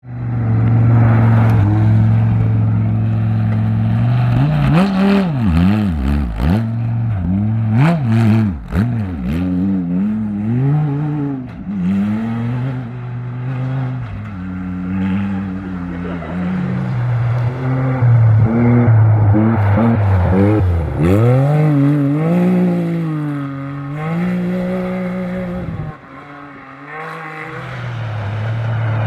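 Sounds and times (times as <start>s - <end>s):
engine revving: 0.3s - 29.0s.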